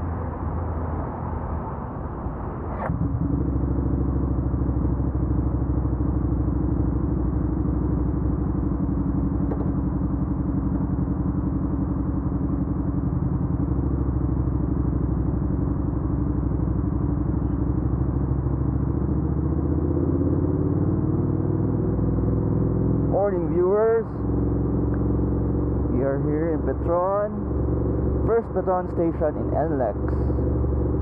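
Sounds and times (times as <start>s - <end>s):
motorcycle engine idling: 3.1s - 19.4s, 22.1s - 31.0s.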